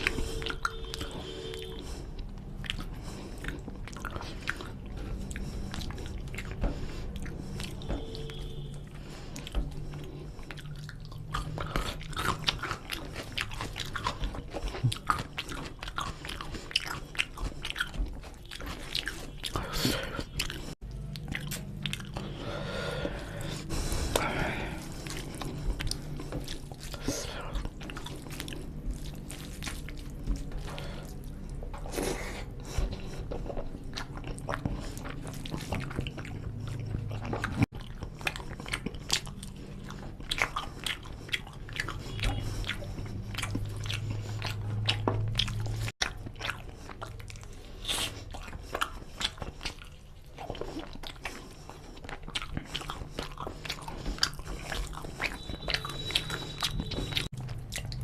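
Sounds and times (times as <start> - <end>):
person chewing food: 0.0 - 58.0
wet mouth clicks: 9.2 - 22.4, 23.5 - 58.0.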